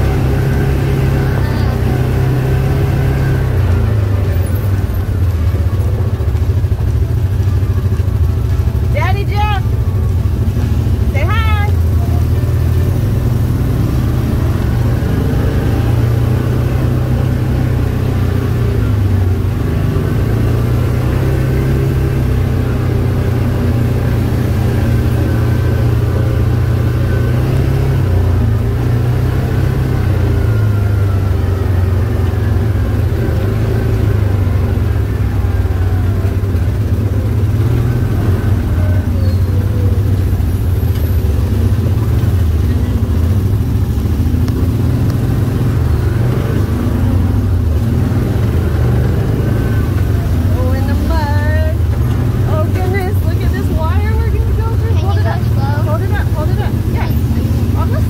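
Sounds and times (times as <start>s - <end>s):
utility vehicle engine droning: 0.0s - 58.0s.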